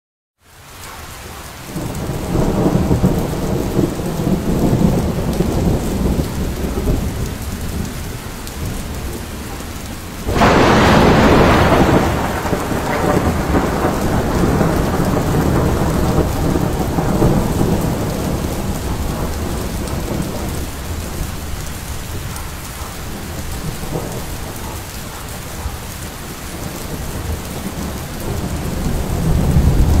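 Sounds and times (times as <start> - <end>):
rain falling: 0.4 - 30.0
loud thunderclap: 1.7 - 8.0, 10.2 - 22.4, 23.2 - 25.7, 26.4 - 30.0
rolling thunder: 1.7 - 30.0.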